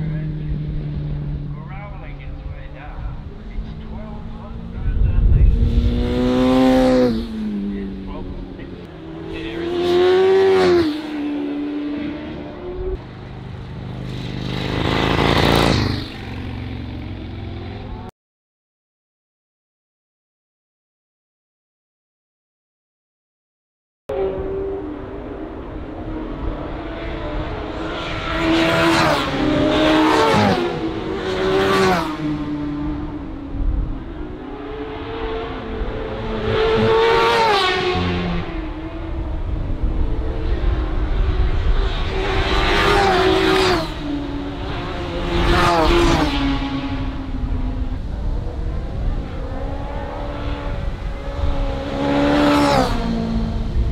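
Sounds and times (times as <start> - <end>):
motorbike passing at speed: 0.0 - 18.1, 24.1 - 53.9
second motorbike engine passing: 4.4 - 18.1, 24.1 - 53.9.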